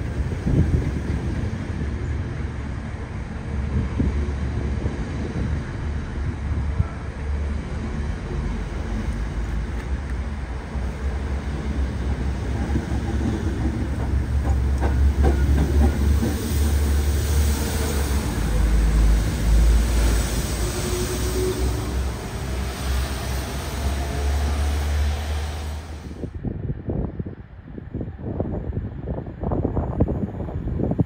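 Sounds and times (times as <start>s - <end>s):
wind buffeting microphone: 0.0s - 23.8s, 25.9s - 31.0s
train rumbling past: 0.0s - 31.0s.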